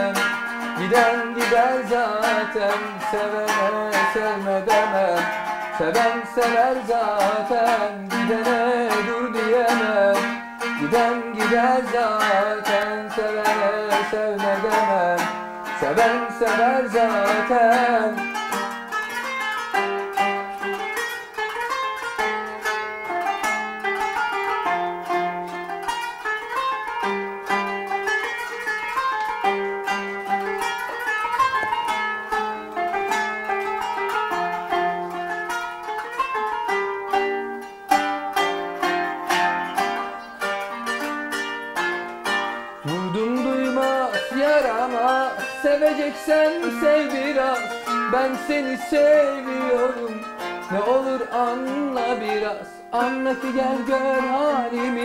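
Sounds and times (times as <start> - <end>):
plucked zither melody: 0.0 - 55.0.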